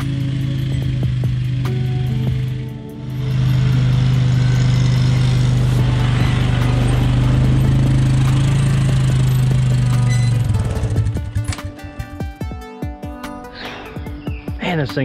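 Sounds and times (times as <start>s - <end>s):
atv engine droning: 0.0s - 12.4s.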